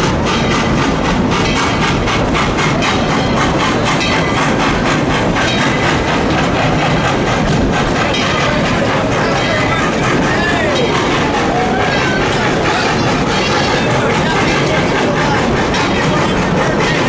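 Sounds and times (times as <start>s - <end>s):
steam train rumble and clatter: 0.0s - 17.0s.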